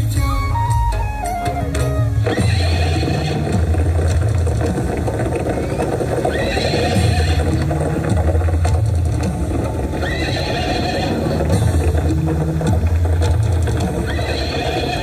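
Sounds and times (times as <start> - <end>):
deep pulsing rumble: 0.0 - 15.0
hoofbeats: 0.8 - 15.0
horses whinnying: 1.4 - 15.0.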